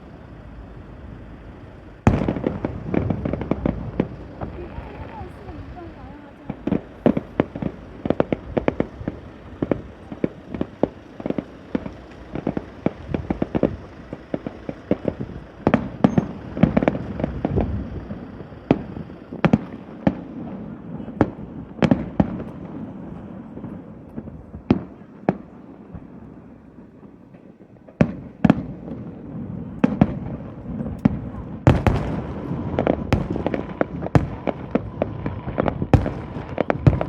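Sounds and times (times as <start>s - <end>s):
continuous fireworks rumble: 0.0s - 37.0s
fireworks bangs: 0.0s - 37.0s.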